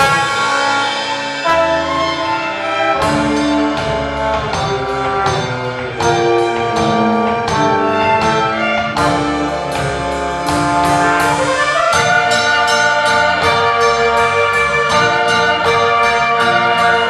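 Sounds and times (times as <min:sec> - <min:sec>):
symphony orchestra playing: 0:00.0 - 0:17.0.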